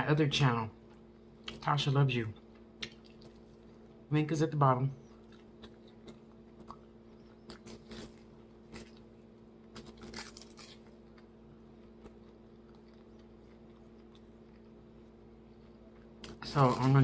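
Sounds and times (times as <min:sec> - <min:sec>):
chewing and crunching: 0:02.3 - 0:04.0, 0:05.0 - 0:17.0.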